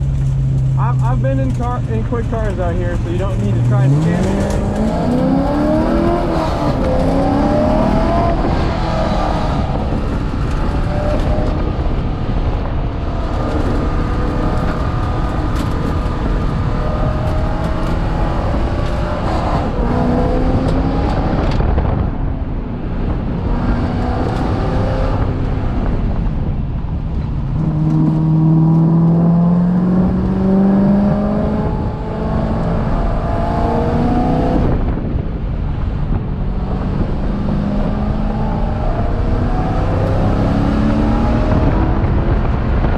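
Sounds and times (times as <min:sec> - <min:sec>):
race car engine revving: 0:00.0 - 0:12.4, 0:13.0 - 0:22.0, 0:27.6 - 0:34.8, 0:36.5 - 0:42.9.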